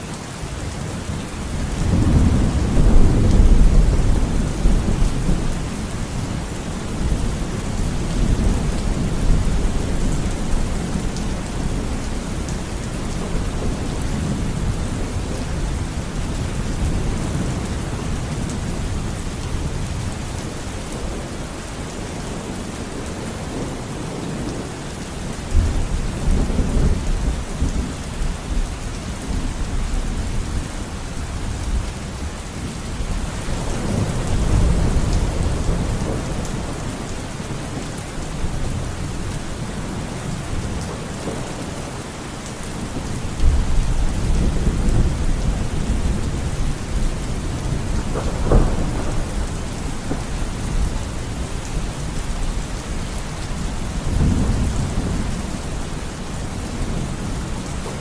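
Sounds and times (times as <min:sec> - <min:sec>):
steady rain: 0:00.0 - 0:58.0
thunder rumbling: 0:01.4 - 0:22.0, 0:25.5 - 0:58.0.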